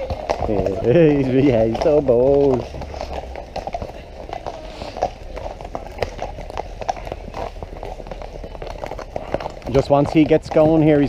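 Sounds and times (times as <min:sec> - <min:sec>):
horse hooves clip-clopping on tarmac: 0:00.0 - 0:11.0.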